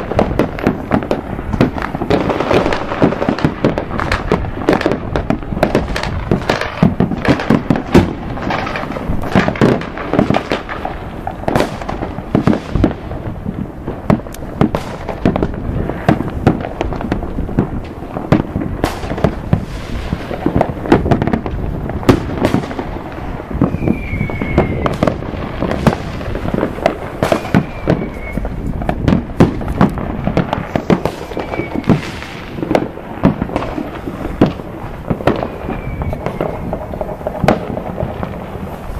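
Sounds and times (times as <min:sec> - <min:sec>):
fireworks bangs and pops: 0:00.0 - 0:38.9
fireworks falling whistles: 0:00.0 - 0:38.9.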